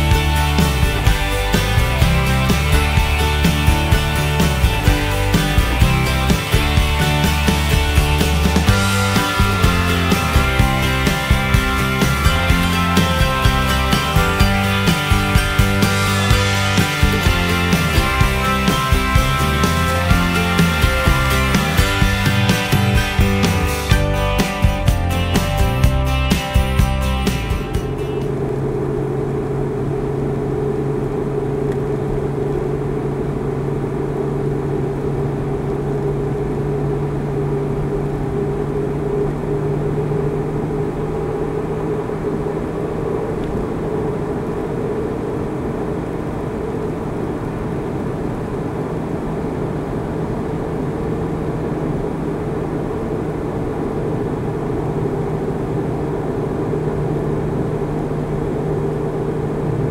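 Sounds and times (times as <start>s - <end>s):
car engine drone: 0.0s - 59.9s
tyre and road noise: 0.0s - 59.9s.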